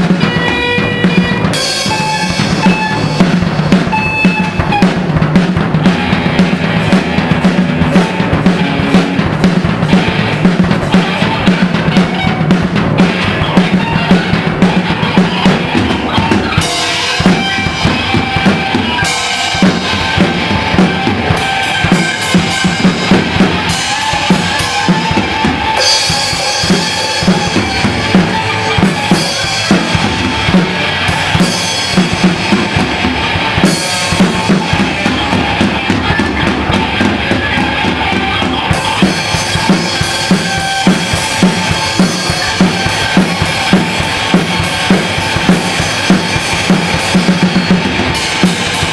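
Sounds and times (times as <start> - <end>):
bass drum and snare beat: 0.0 - 48.9
cymbals washing: 0.0 - 48.9.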